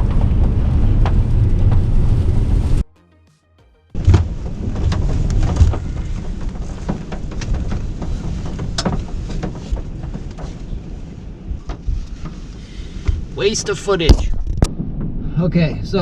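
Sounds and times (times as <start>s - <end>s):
wind buffeting microphone: 0.0s - 2.8s, 4.0s - 16.0s.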